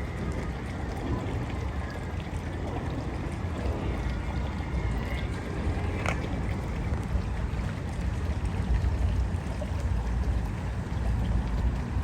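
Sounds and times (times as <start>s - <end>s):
trickling water: 0.0s - 12.0s
wind rumble on microphone: 0.0s - 12.0s.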